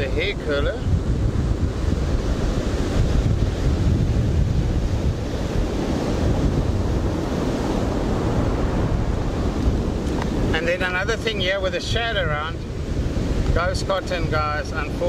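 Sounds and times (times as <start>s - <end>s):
surf breaking on beach: 0.0s - 15.0s
wind rumbling on microphone: 0.0s - 15.0s.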